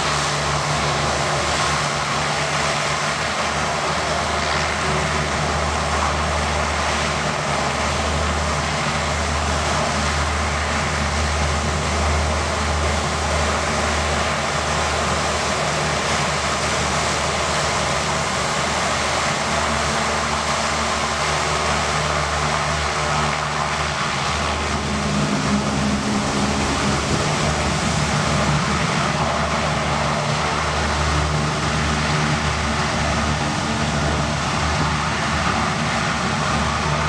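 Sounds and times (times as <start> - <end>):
hovercraft roar: 0.0 - 37.0.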